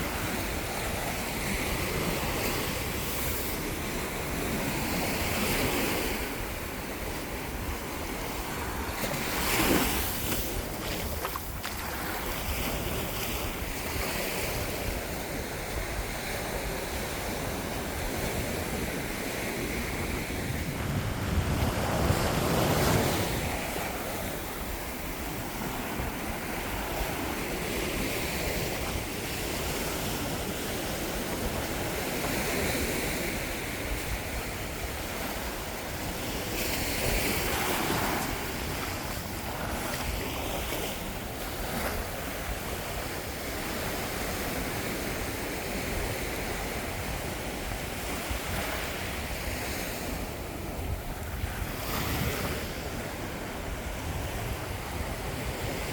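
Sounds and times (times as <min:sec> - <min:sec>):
ocean surf washing on beach: 0:00.0 - 0:55.9
wind buffeting microphone: 0:00.0 - 0:55.9.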